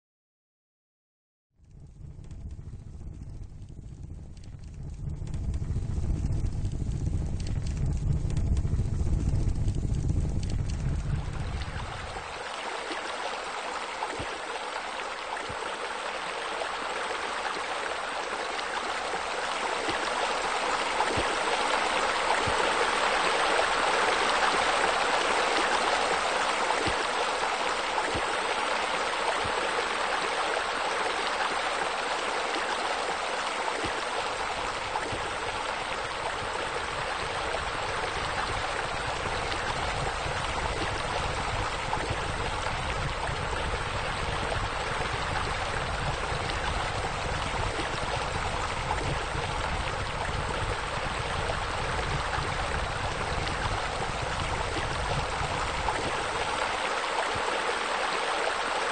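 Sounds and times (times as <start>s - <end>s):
running water rushing: 5.6s - 58.9s.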